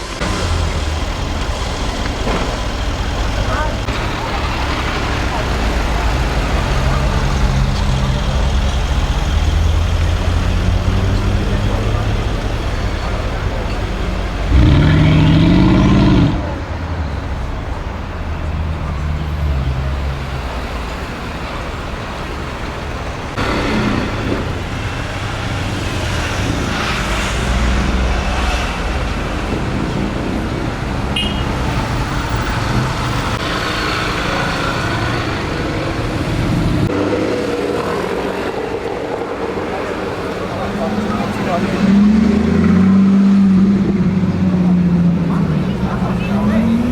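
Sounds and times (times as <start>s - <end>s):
car engines running: 0.0s - 46.9s.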